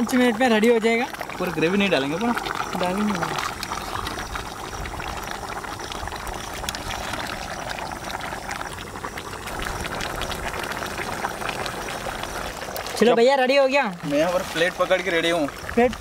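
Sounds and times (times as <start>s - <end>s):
small crackles: 0.0s - 13.1s
ladle pouring gravy: 0.0s - 13.2s
gravy simmering: 0.0s - 16.0s.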